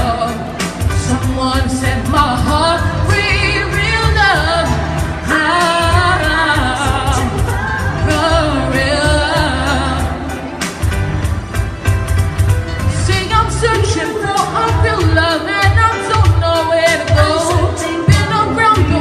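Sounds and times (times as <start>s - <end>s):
woman singing pop song: 0.0s - 11.1s, 12.6s - 19.0s
backing track with bass beat: 0.0s - 19.0s.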